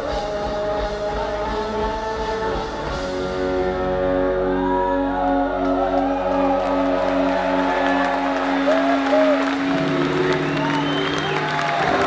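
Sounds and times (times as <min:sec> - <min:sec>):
electric guitar notes ringing: 0:00.0 - 0:12.0
rock band playing live: 0:00.0 - 0:12.0.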